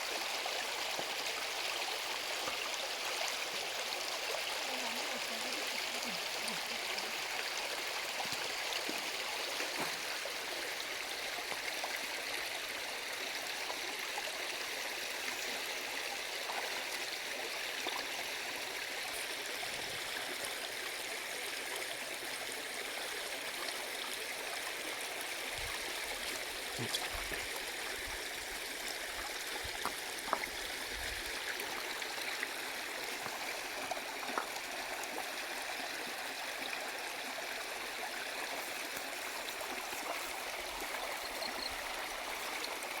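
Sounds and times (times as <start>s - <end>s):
stream flowing over rocks: 0.0s - 43.0s.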